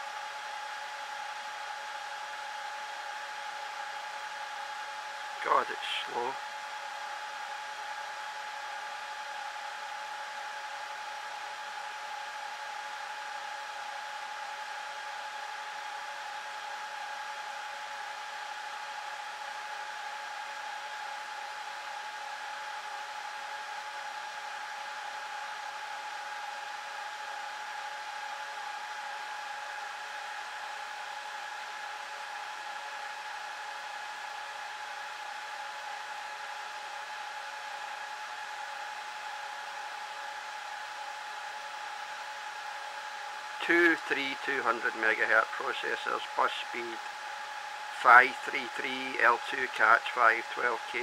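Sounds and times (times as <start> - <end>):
high steady whine: 0.0 - 51.0
server cooling fans whirring: 0.0 - 51.0.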